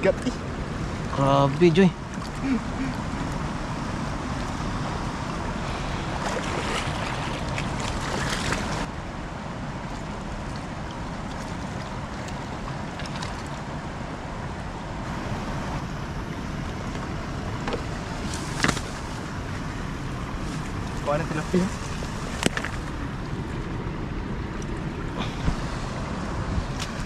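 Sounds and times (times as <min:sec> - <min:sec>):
rushing water and wind: 0:00.0 - 0:27.0.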